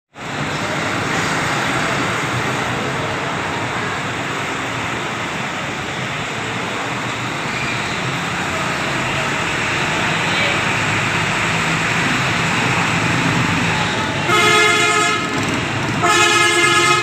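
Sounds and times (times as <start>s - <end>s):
truck engine running: 0.2s - 17.0s.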